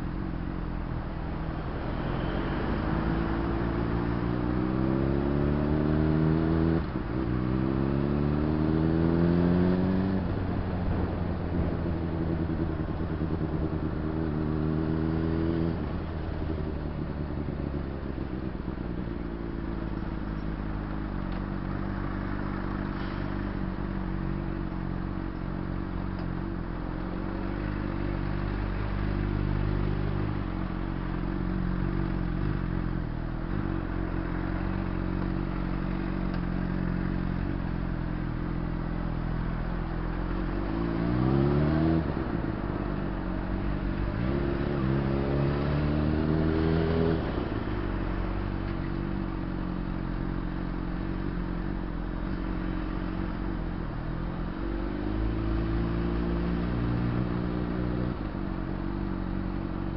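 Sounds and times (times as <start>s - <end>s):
motorcycle engine running and revving: 0.0s - 59.9s.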